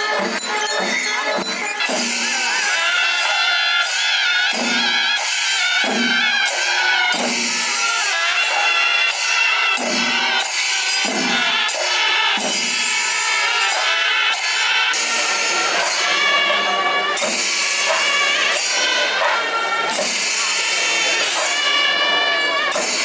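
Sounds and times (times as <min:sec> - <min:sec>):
loud music with drums: 0:00.0 - 0:23.0.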